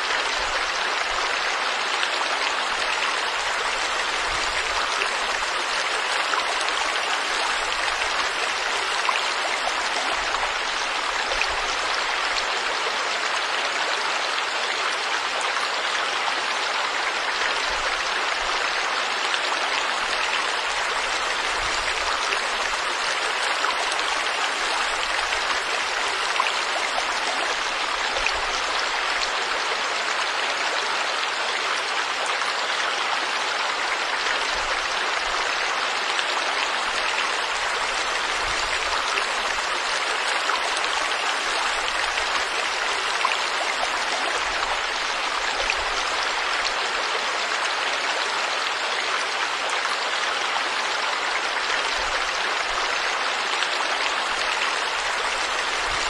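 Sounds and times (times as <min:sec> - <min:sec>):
forest stream flowing: 0:00.0 - 0:56.0.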